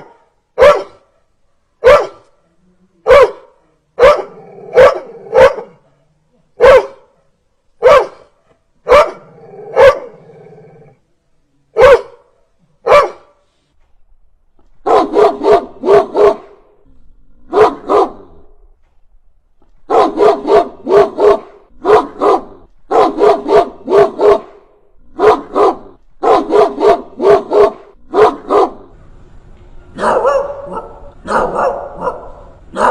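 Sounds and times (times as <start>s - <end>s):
dog barking: 0.0s - 10.3s, 11.7s - 13.4s, 14.8s - 16.7s, 17.5s - 18.4s, 19.9s - 28.9s, 30.0s - 32.9s.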